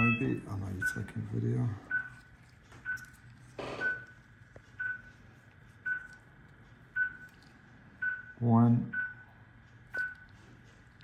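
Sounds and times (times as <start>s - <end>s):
monitor beeping: 0.0s - 5.2s, 5.8s - 7.4s, 8.0s - 10.4s.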